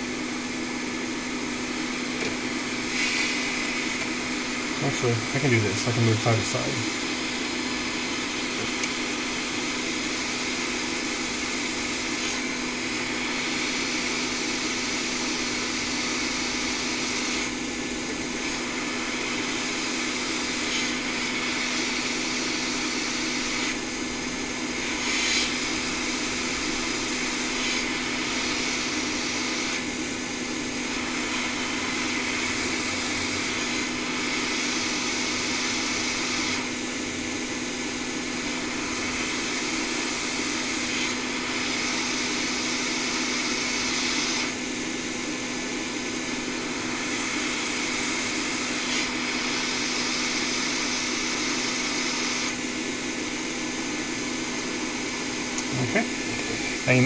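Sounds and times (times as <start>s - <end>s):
hot air station blowing: 0.0s - 57.0s.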